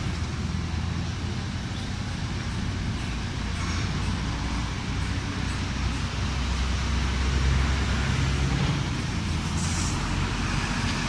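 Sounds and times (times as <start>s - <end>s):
diesel truck engine approaching: 0.0s - 11.0s
road traffic rumble: 0.0s - 11.0s.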